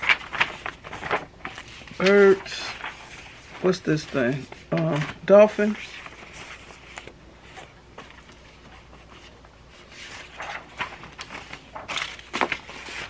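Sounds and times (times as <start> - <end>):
paper crackles: 0.0 - 13.0
paper sheets rustling: 0.0 - 13.0.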